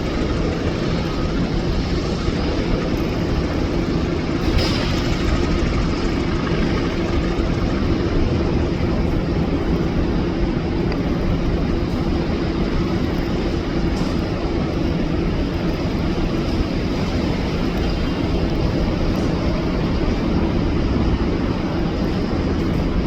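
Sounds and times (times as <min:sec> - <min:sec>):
helicopter engine and rotor drone: 0:00.0 - 0:23.0.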